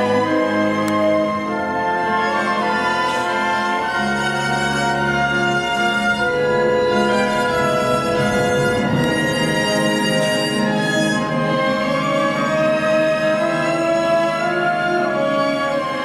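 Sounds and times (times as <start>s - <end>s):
orchestral ballet music: 0.0s - 16.0s
violin melody: 0.0s - 16.0s.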